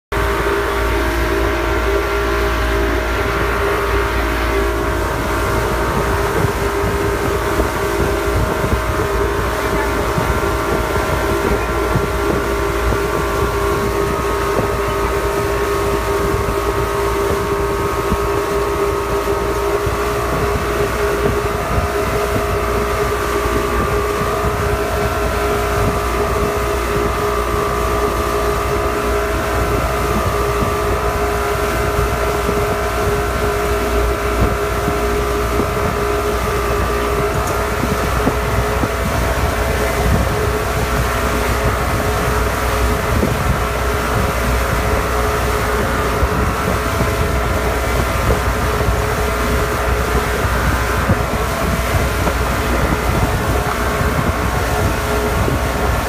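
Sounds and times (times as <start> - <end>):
motorboat engine running: 0.0 - 56.0
wind buffeting microphone: 0.1 - 56.0.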